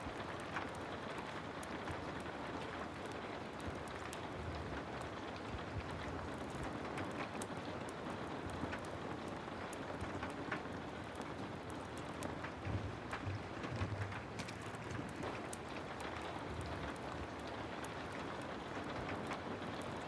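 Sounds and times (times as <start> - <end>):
heavy rain falling: 0.0 - 20.0
sharp crackles: 0.0 - 20.0.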